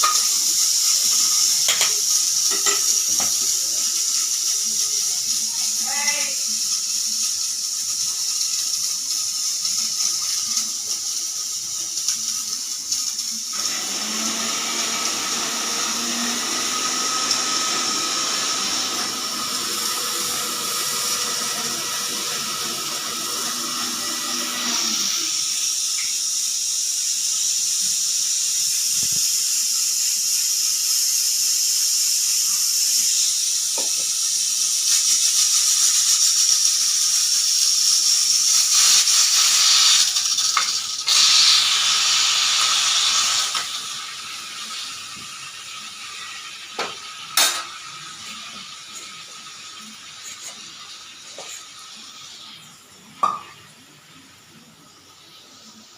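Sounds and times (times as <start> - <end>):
pressure cooker steam hiss: 0.0 - 55.9.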